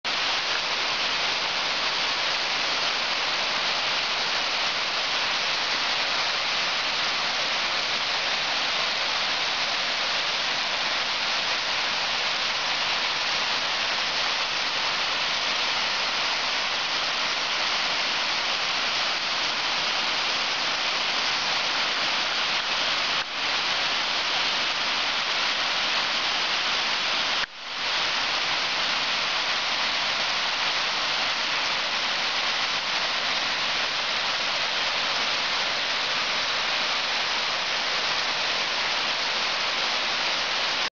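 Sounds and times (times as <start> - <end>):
water rushing over waterfall: 0.1 - 40.9.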